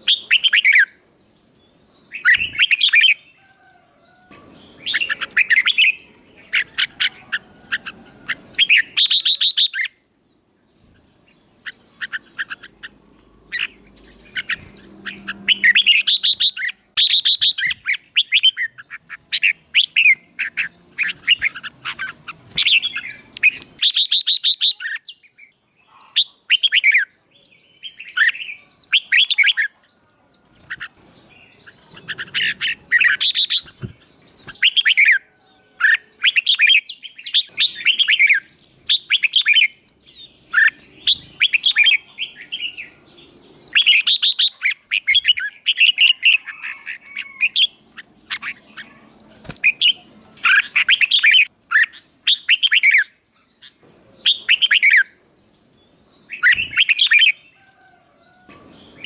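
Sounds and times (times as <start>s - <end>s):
songbird chirps and trills: 0.0s - 59.0s.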